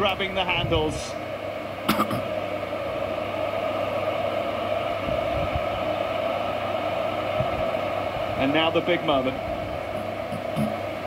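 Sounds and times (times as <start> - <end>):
stadium crowd roaring: 0.0 - 11.0.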